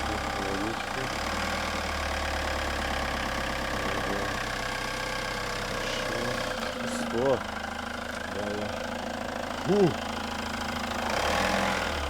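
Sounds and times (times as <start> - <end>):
van engine running at low revs: 0.0 - 12.0.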